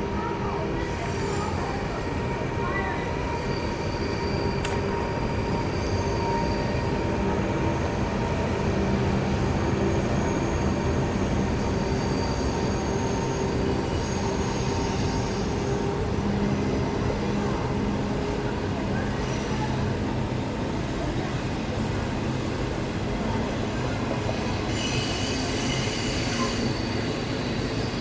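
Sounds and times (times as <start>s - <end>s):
train rumbling on tracks: 0.0s - 28.0s.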